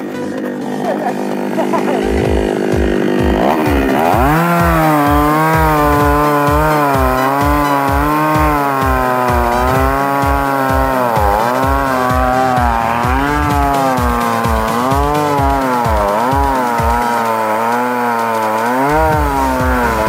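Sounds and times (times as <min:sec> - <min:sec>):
background music beat: 0:00.0 - 0:20.0
chainsaw cutting log: 0:00.0 - 0:20.0.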